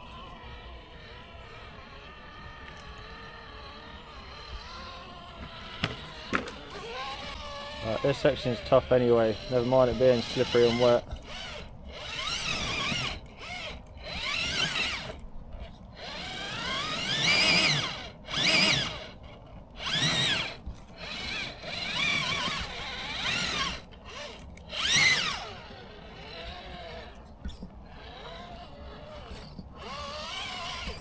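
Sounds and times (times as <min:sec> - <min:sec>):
electric motor whining bursts: 0:00.0 - 0:31.0.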